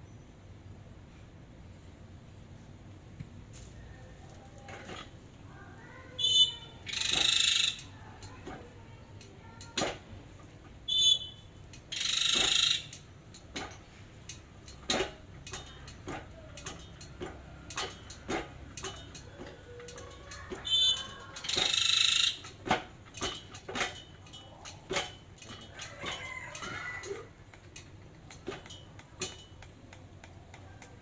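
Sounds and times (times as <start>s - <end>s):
metal tools clinking: 6.2s - 31.0s.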